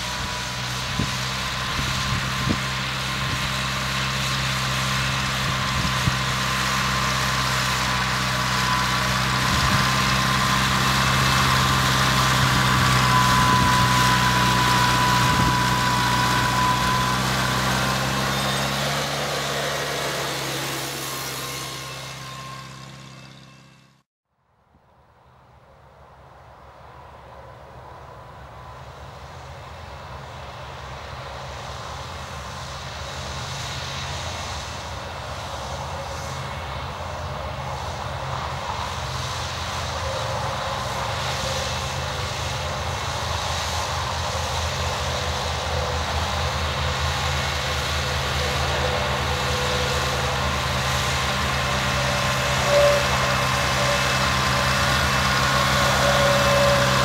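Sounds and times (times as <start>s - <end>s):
tractor engine under load: 0.0s - 24.0s, 30.6s - 57.0s.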